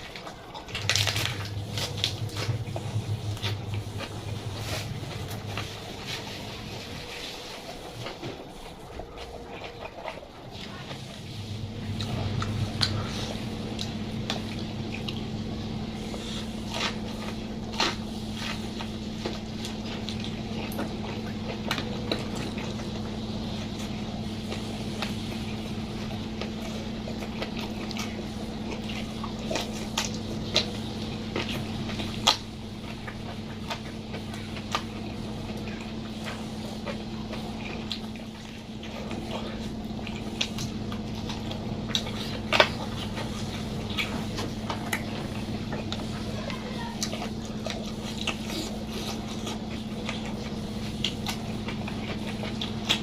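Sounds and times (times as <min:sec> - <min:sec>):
steady low hum: 0:00.0 - 0:53.0
wet chewing: 0:00.0 - 0:53.0.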